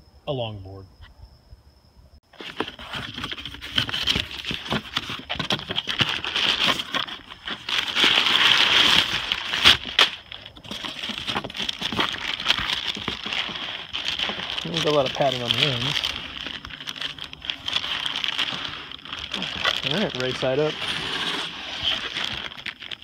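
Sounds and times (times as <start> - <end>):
cardboard flaps scraping: 2.3 - 23.0
packing paper rustling and crinkling: 2.3 - 23.0.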